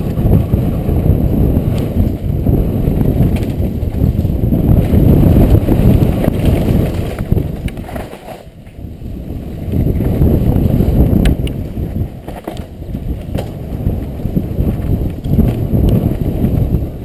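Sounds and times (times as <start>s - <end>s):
mountain bike rumbling and rattling: 0.0s - 17.0s
wind buffeting microphone: 0.0s - 17.0s.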